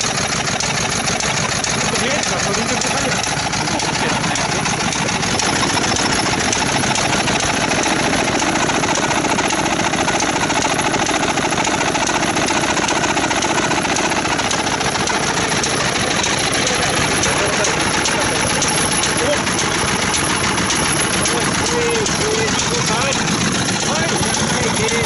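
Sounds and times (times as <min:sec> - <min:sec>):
stationary engine running: 0:00.0 - 0:25.0.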